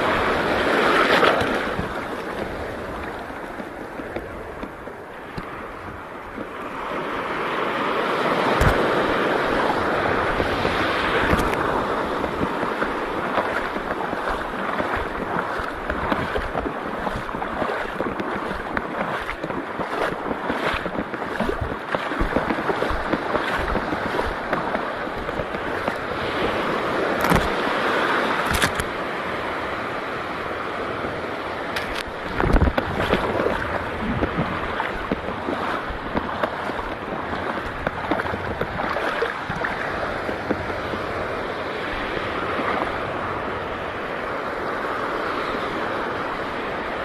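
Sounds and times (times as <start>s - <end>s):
wind buffeting microphone: 0.0s - 28.9s, 30.7s - 43.8s
seawater sloshing at shore: 0.0s - 47.0s.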